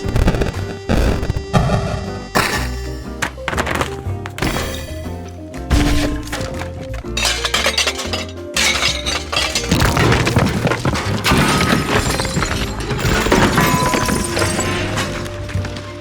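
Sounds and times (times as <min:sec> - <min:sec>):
background music: 0:00.0 - 0:16.0
debris breaking and clattering: 0:02.4 - 0:16.0
glass shattering: 0:02.4 - 0:16.0.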